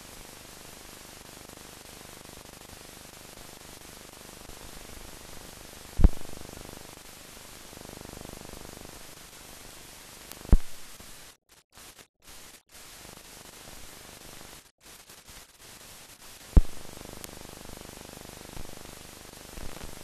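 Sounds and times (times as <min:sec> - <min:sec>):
film soundtrack hiss and static: 0:00.0 - 0:20.0.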